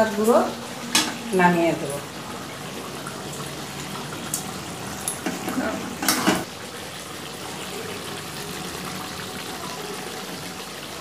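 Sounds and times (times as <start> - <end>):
curry simmering and bubbling: 1.5 - 11.0.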